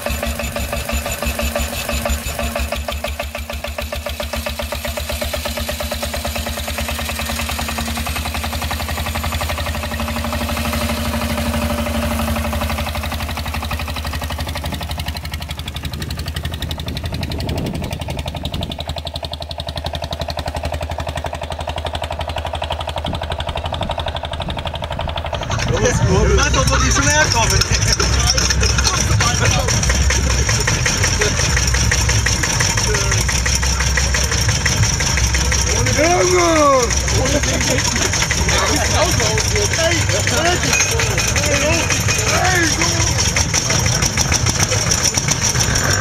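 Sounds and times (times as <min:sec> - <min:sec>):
motorcycle diesel engine clattering: 0:00.0 - 0:46.0.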